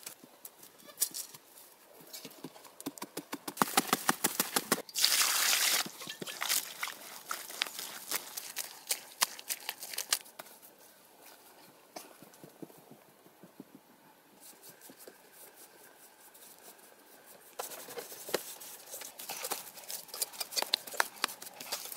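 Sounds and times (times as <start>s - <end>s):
knocks and scrapes in soil: 0.0s - 21.9s.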